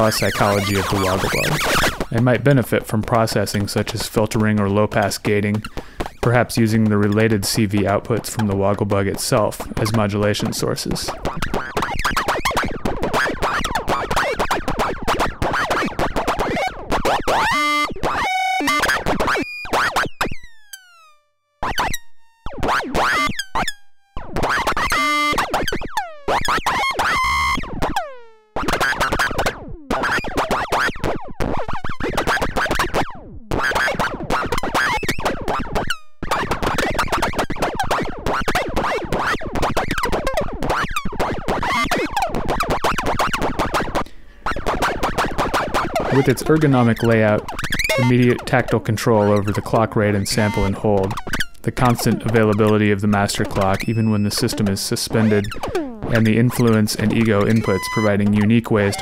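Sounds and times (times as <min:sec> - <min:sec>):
chaotic stepping synthesizer tones: 0:00.0 - 0:59.0.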